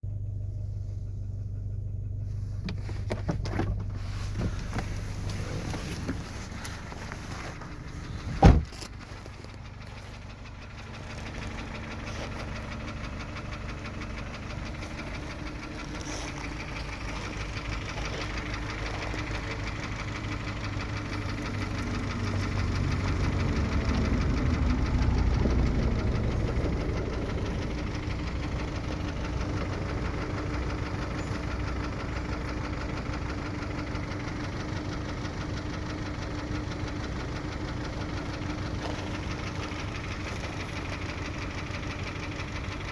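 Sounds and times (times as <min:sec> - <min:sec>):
car engine knocking: 0:00.1 - 0:42.9.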